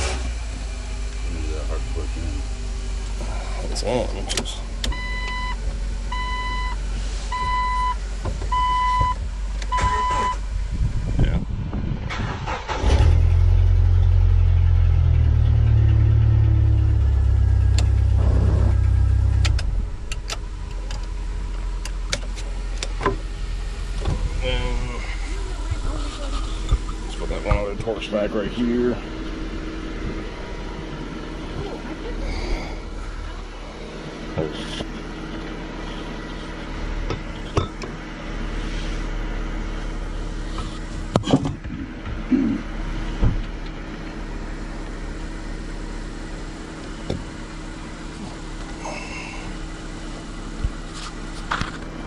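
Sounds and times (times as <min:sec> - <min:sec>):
car engine running: 0:00.0 - 0:52.0
steady low hum: 0:00.0 - 0:52.0.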